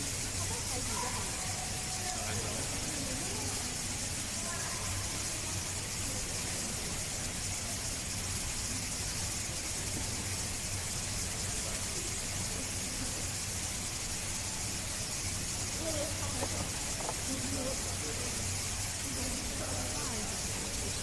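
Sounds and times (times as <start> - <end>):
faint indistinct voices: 0.0 - 21.0
steady background hiss: 0.0 - 21.0.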